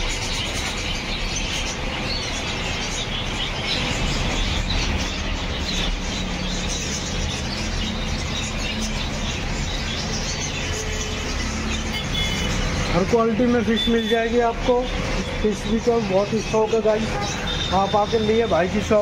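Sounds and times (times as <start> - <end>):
caged birds chirping and twittering: 0.0 - 19.0
low rumble of street traffic: 0.0 - 19.0
market noise: 0.0 - 19.0.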